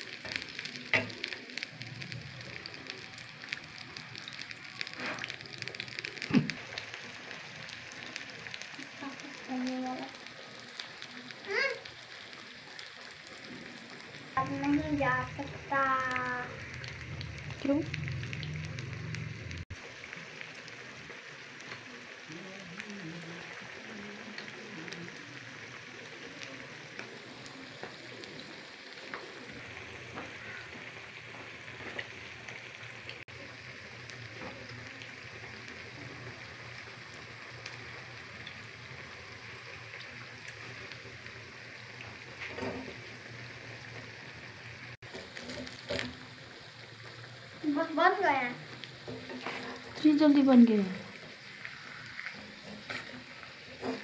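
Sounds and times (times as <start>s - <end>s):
potato slices deep-frying sizzle: 0.0s - 54.0s.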